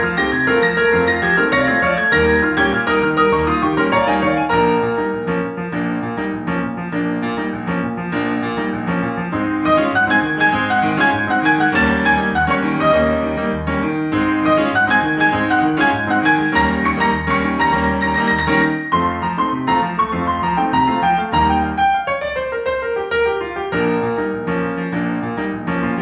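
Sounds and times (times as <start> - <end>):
instrumental piano music: 0.0 - 26.0.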